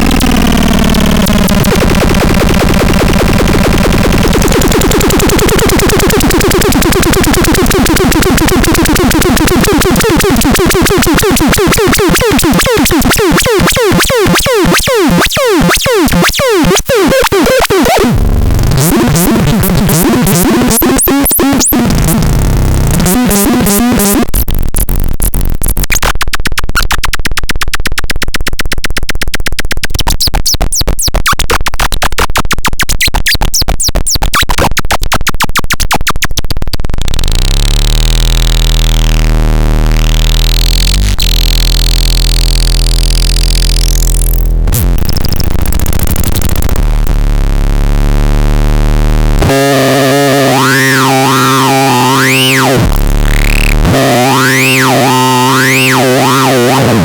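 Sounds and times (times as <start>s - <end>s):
harsh synthesizer sounds: 0.0s - 57.0s.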